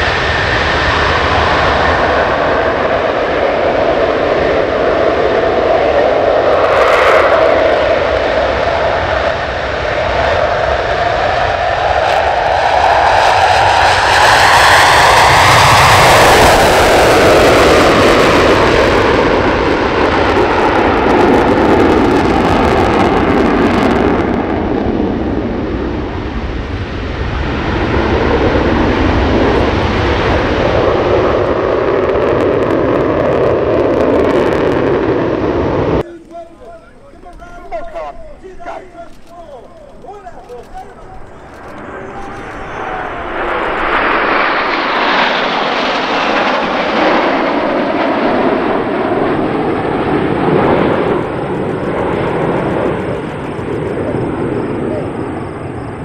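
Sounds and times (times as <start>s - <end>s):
jet engines in afterburner: 0.0s - 56.0s.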